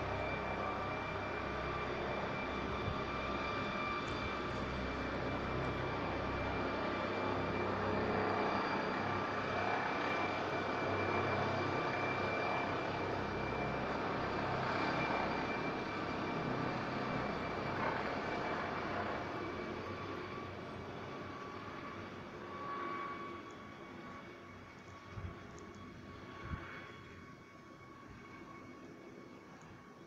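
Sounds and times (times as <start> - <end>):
helicopter rotor beat: 0.0 - 30.0
turbine whine: 0.0 - 30.0.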